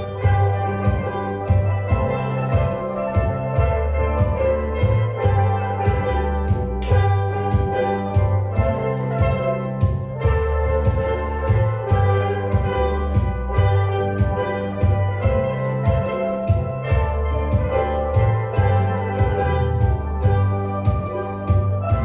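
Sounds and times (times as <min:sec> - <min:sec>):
steel pan band playing: 0:00.0 - 0:22.0.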